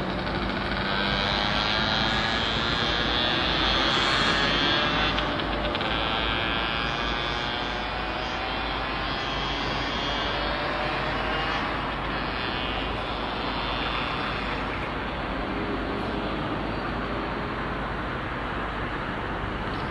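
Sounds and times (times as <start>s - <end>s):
construction machinery engines droning: 0.0s - 19.9s.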